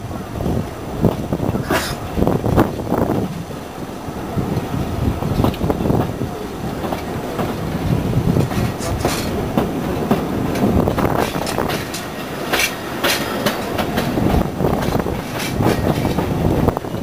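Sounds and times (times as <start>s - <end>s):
train carriage rumble: 0.0s - 17.0s
wheels clacking on track: 0.0s - 17.0s.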